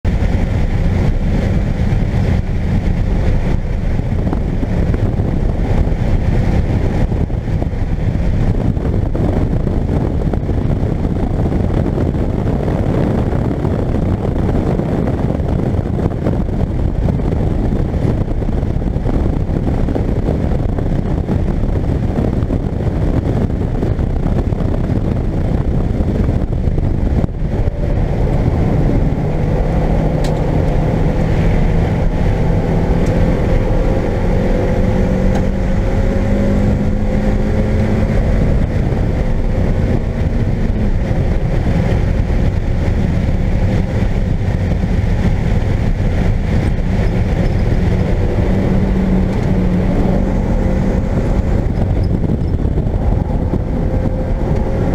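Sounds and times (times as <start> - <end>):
car engine at high revs: 0.0 - 54.9
road noise: 0.0 - 54.9
wind noise: 0.0 - 54.9.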